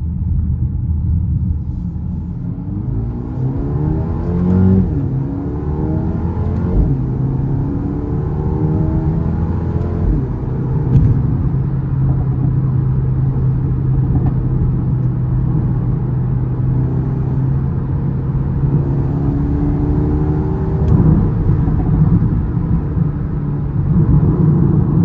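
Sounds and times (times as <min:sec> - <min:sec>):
car engine and exhaust running: 0:00.0 - 0:25.0.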